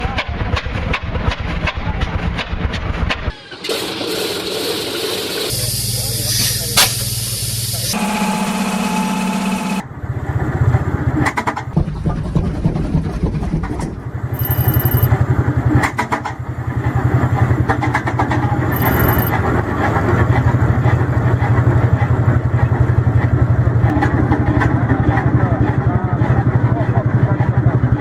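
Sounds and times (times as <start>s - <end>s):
large engine starting and running: 0.4s - 28.0s.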